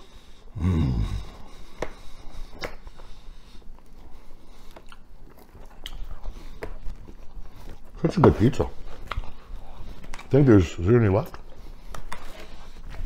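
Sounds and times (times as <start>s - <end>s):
closed-mouth hum: 0.0s - 13.0s
man chewing with wet smacks: 1.4s - 13.0s.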